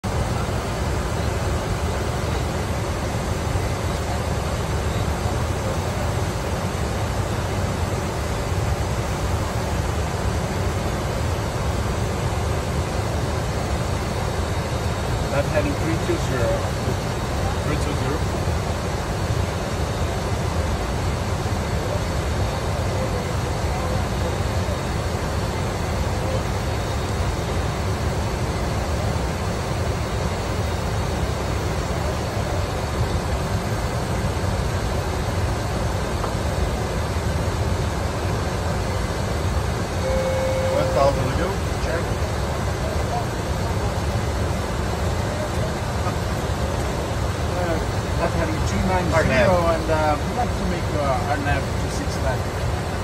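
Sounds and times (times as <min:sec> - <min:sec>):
faint high whine: 0:00.0 - 0:53.0
jet cockpit airflow and engine noise: 0:00.0 - 0:53.0.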